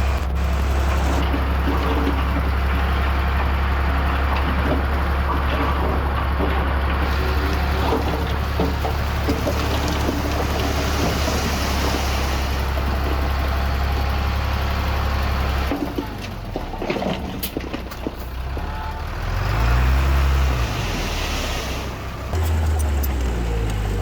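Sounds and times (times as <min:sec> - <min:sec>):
diesel machinery engine drone: 0:00.0 - 0:24.0.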